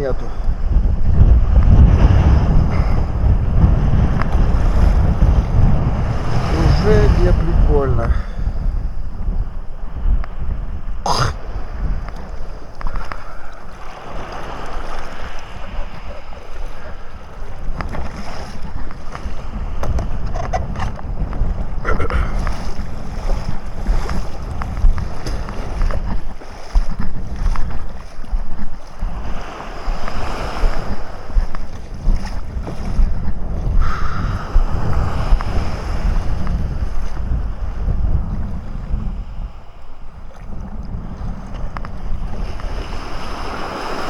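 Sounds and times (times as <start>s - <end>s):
sea waves breaking: 0.0s - 44.0s
wind buffeting microphone: 0.0s - 44.0s.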